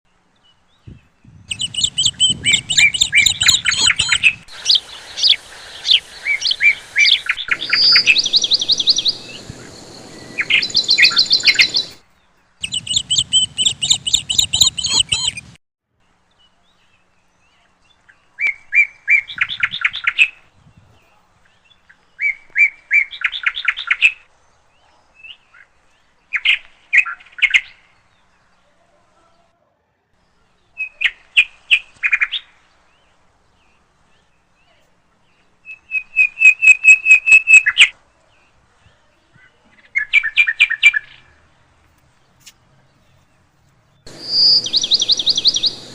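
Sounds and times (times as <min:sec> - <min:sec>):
small birds chirping in trills: 0:00.1 - 0:29.5, 0:30.2 - 0:45.9.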